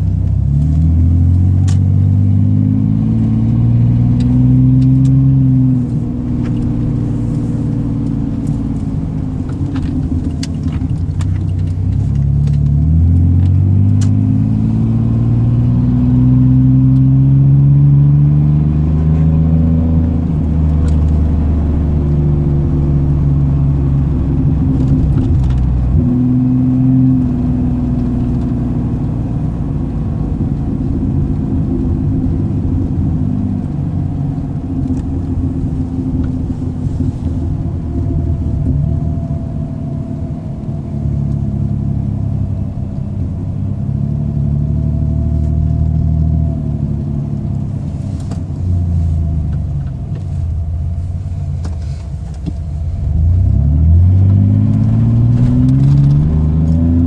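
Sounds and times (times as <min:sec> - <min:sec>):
straight-piped exhaust accelerating: 0:00.0 - 0:57.0.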